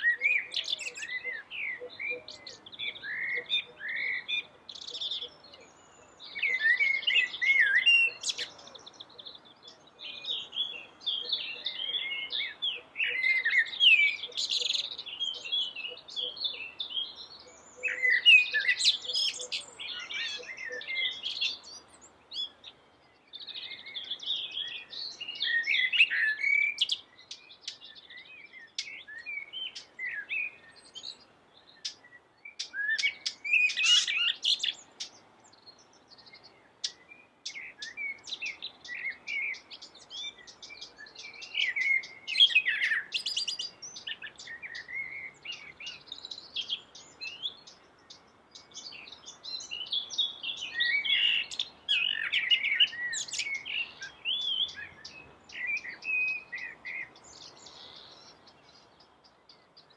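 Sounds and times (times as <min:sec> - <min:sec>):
blackbird singing: 0:00.0 - 0:59.9.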